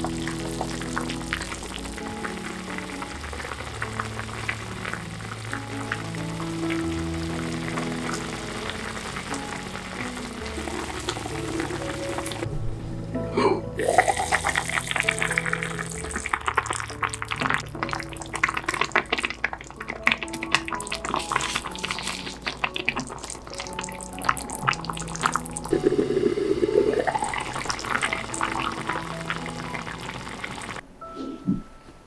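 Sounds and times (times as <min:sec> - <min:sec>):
light background music: 0:00.0 - 0:32.0.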